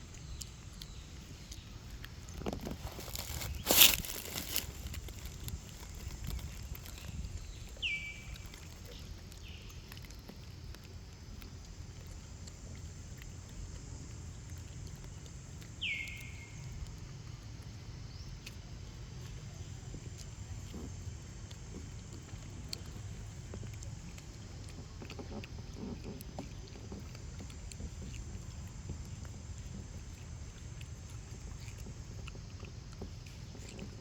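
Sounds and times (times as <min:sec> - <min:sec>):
low outdoor rumble: 0:00.0 - 0:34.0.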